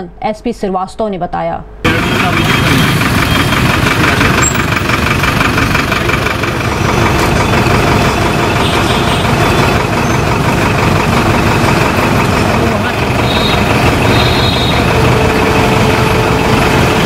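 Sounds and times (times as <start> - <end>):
bus engine idling: 1.9 - 17.0.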